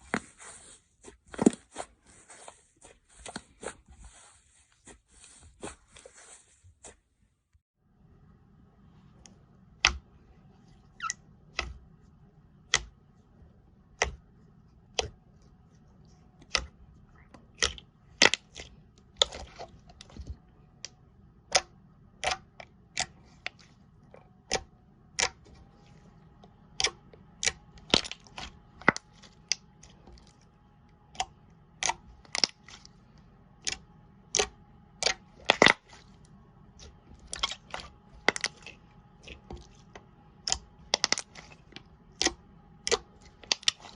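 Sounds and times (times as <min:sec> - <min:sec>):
steady low hum: 0:07.8 - 0:43.9.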